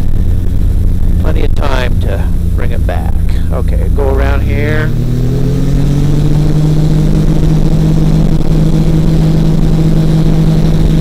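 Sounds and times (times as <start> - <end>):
ultralight engine and propeller drone: 0.0 - 11.0.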